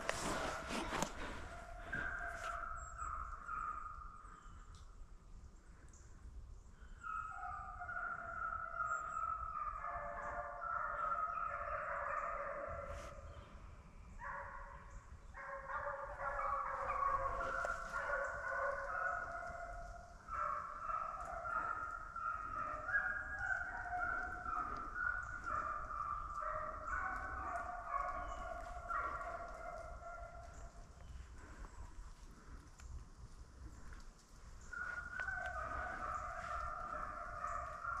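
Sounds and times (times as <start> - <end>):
hounds baying and howling: 0.0 - 4.4, 6.9 - 38.0.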